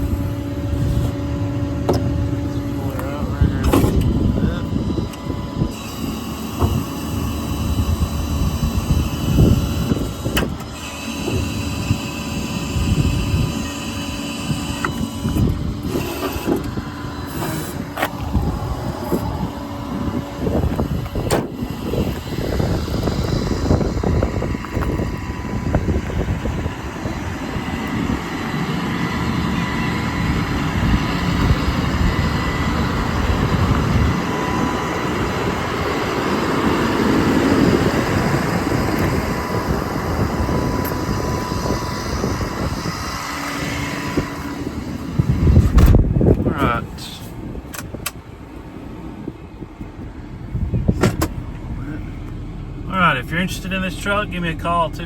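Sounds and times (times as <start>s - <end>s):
diesel truck engine rumble: 0.0s - 55.0s.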